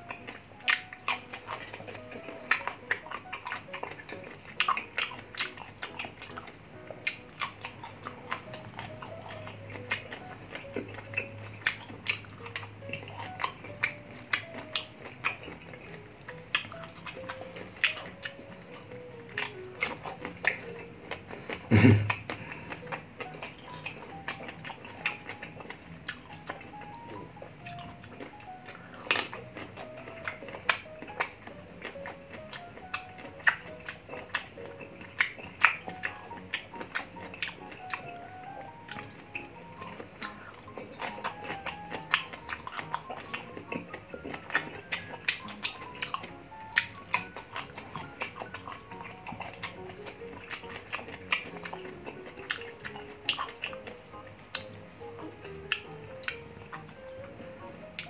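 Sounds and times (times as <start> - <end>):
crunching and chewing mango: 0.0 - 58.0
light background music: 0.0 - 58.0.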